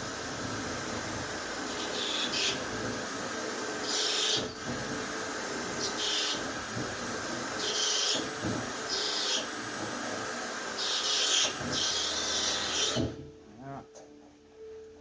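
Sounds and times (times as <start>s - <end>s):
power drill grinding: 0.0s - 13.2s.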